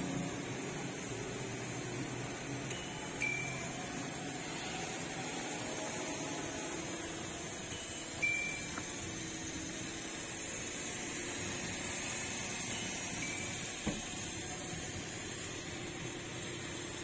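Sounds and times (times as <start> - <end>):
van cabin hum: 0.3 - 17.0.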